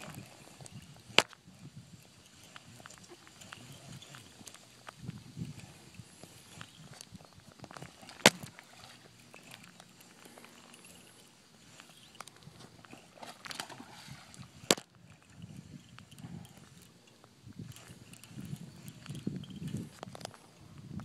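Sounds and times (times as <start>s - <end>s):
light irregular crackling: 0.0s - 21.0s
small clicks: 0.0s - 21.0s.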